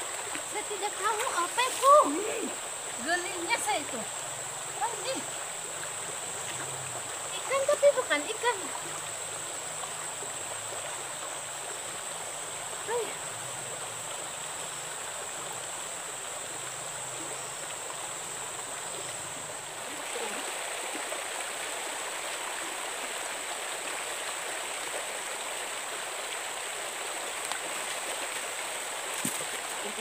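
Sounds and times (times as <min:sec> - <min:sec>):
creek water flowing over stones: 0:00.0 - 0:30.0.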